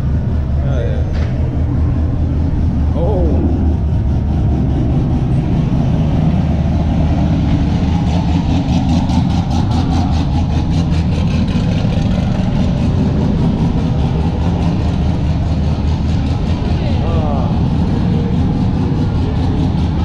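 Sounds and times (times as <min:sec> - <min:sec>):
car engines idling: 0:00.0 - 0:20.0.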